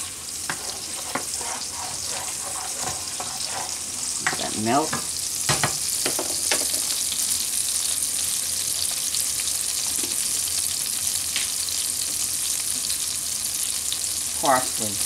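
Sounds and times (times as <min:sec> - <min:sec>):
oil sizzling in a pan: 0:00.0 - 0:15.0.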